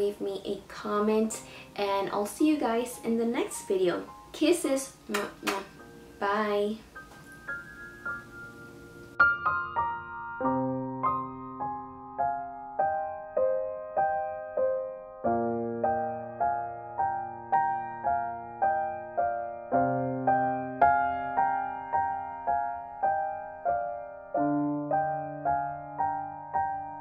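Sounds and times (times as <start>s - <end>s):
soft piano music: 0.0s - 27.0s.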